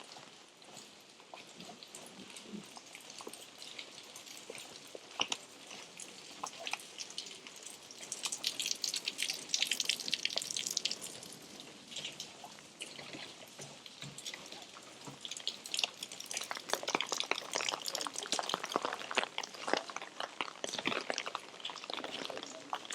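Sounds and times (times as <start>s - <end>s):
rain drops ticking and dripping: 0.0s - 22.9s.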